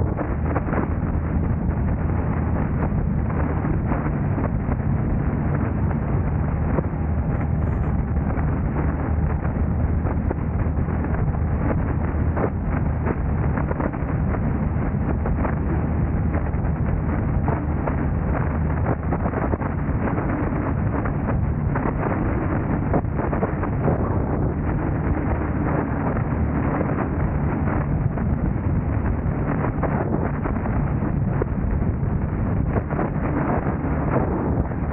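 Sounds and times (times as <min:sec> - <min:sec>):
car engine drone: 0:00.0 - 0:34.9
road noise: 0:00.0 - 0:34.9
wind on microphone: 0:00.0 - 0:34.9.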